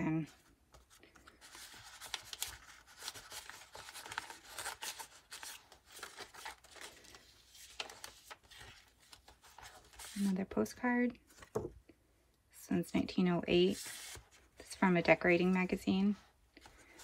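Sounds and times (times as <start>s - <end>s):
paper pages rustling: 0.3s - 11.7s, 13.6s - 17.0s.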